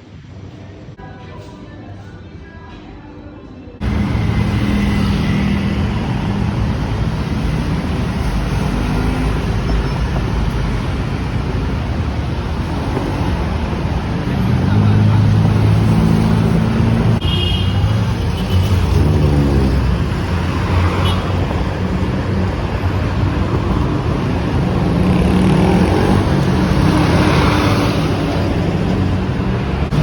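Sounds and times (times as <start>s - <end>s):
road noise: 0.0s - 30.0s
vehicle engines humming: 3.8s - 30.0s.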